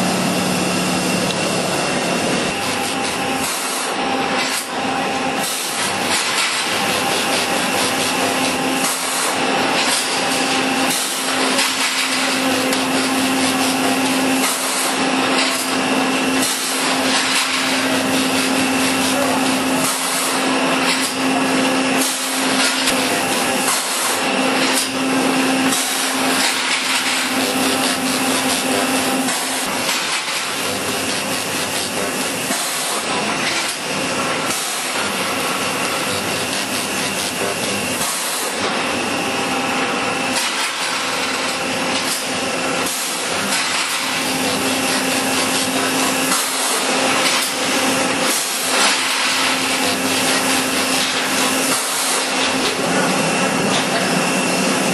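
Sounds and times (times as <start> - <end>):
steady hum: 0.0 - 54.9
welding machine clatter and hiss: 0.0 - 54.9.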